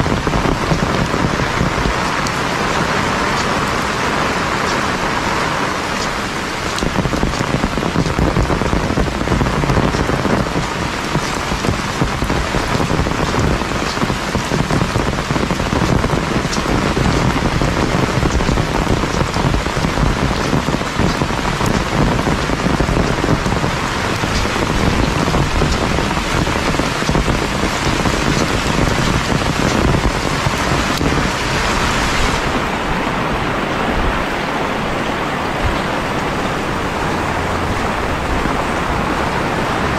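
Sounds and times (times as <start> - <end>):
heavy rain pouring: 0.0 - 39.9
raindrops pattering: 0.0 - 39.9.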